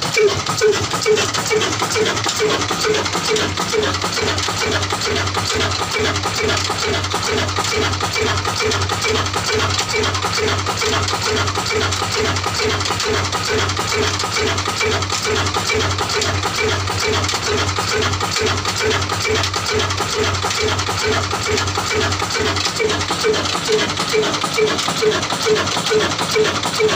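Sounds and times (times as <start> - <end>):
single-cylinder diesel engine running: 0.0 - 26.9.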